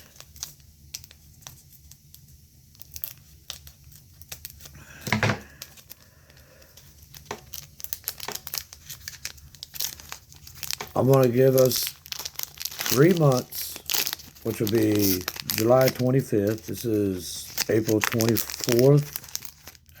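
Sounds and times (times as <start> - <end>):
foil wrapper crinkling and tearing: 0.0 - 20.0.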